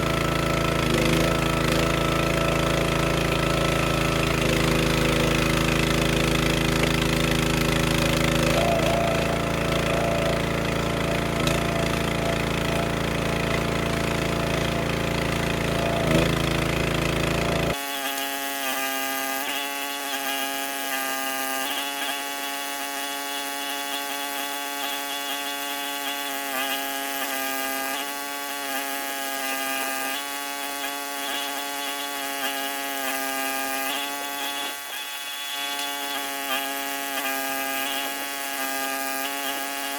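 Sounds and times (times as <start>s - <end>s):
wood splitter engine running: 0.0s - 39.9s.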